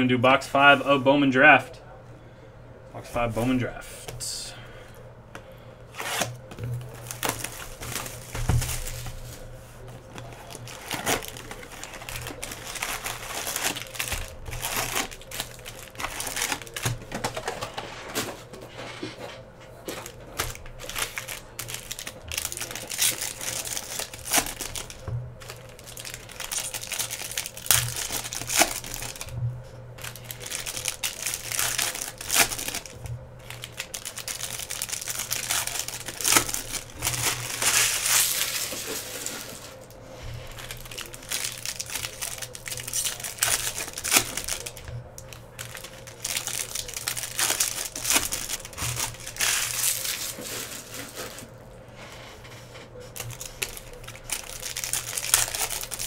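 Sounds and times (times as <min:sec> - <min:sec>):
foil wrappers crinkling: 0:05.9 - 0:29.4, 0:30.0 - 0:56.0.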